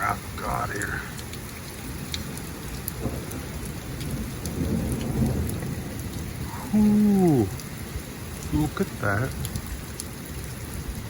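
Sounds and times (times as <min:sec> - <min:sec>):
heavy rain pouring: 0:00.0 - 0:11.0
low rumble of thunder: 0:01.2 - 0:11.0.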